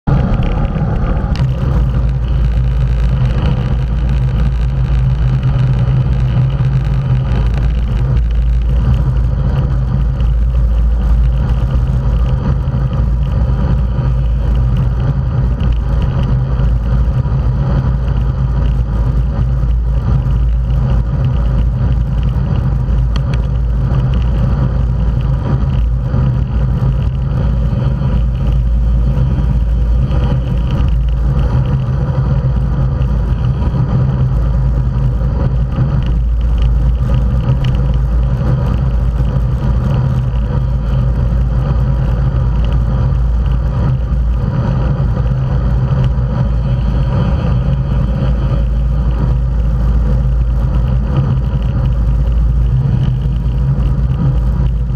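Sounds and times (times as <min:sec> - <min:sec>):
bicycle tyre and road noise: 0:00.0 - 0:54.9
wind rumble on microphone: 0:00.0 - 0:54.9.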